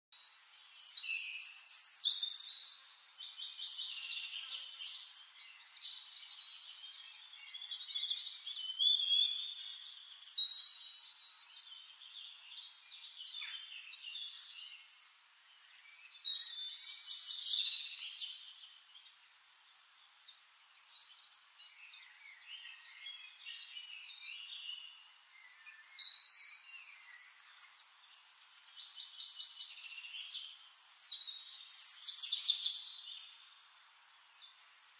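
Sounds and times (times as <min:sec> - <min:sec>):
songbirds chirping and trilling: 0:00.2 - 0:34.9.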